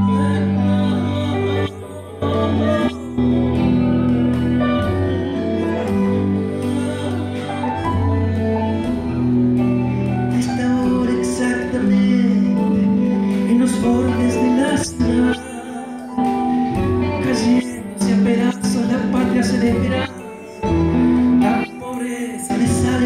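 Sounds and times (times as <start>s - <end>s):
live folk band playing: 0.0s - 23.0s
man singing into a microphone: 0.0s - 23.0s.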